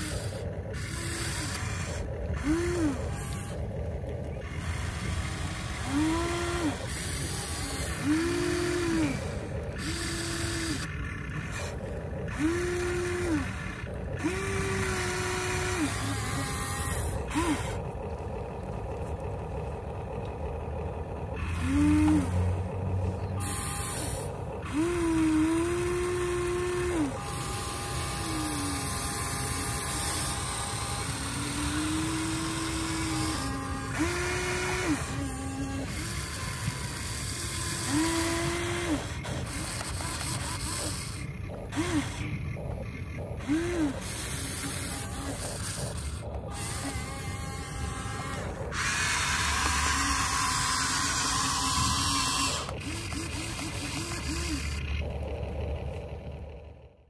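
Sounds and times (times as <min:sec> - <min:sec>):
electric motors whining: 0:00.0 - 0:57.0
low hum: 0:00.0 - 0:57.0.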